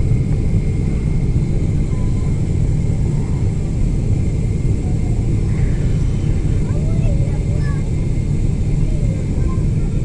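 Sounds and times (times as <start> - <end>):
airliner cabin rumble: 0.0 - 10.0
faint high hum: 0.0 - 10.0.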